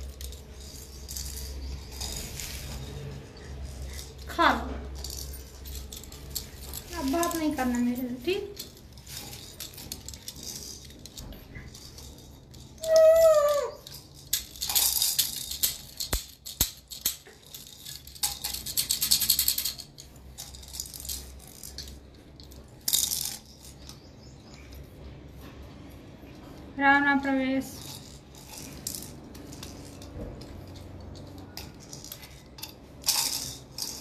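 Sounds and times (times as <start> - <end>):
plastic toy rattle shaking: 0.0 - 24.8, 27.2 - 34.0.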